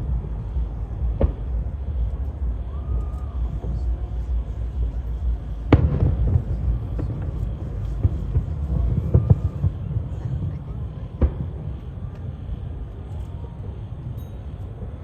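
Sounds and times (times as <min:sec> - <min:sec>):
fireworks bangs: 0:00.0 - 0:12.4
low rumble: 0:00.0 - 0:15.0.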